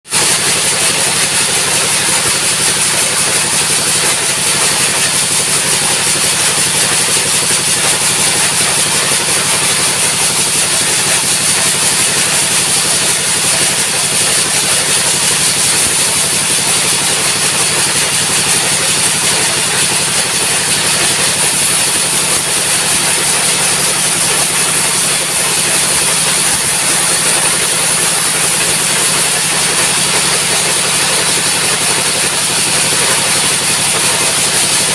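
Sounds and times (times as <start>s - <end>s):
engine-driven sawmill running: 0.1s - 34.9s.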